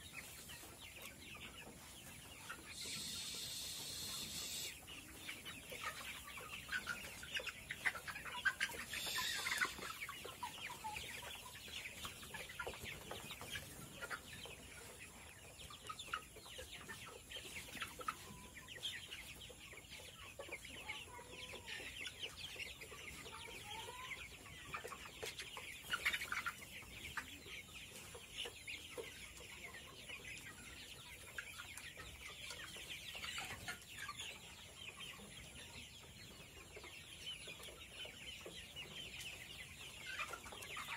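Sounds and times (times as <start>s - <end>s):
chickens calling: 0.0s - 40.9s.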